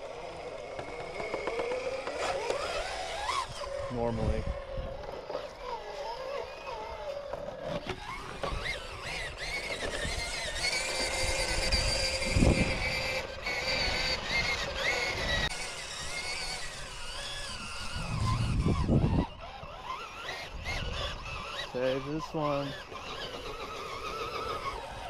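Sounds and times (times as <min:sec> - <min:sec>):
electric motor and gears whining: 0:00.0 - 0:25.0.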